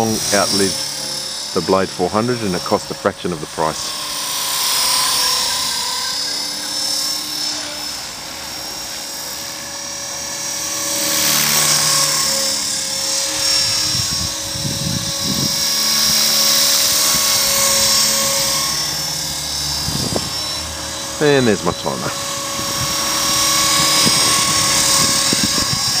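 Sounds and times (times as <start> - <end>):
rc helicopter rotor whine: 0.0 - 26.0.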